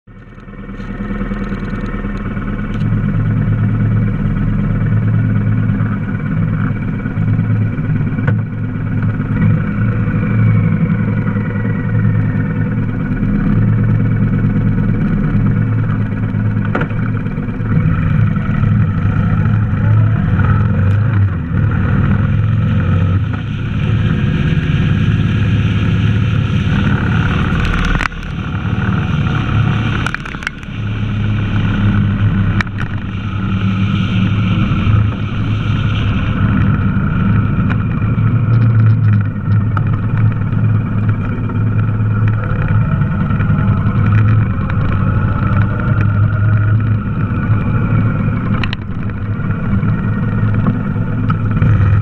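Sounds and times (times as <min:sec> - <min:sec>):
motorcycle engine throbbing: 0:00.0 - 0:52.0.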